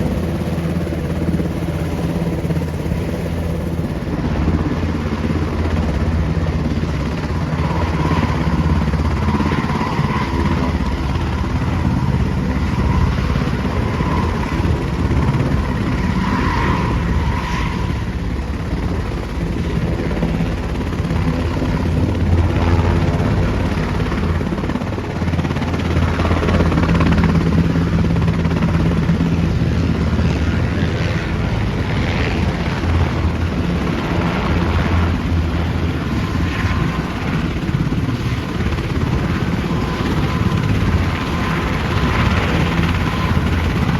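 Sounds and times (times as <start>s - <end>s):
helicopter low rumble: 0.0s - 43.9s.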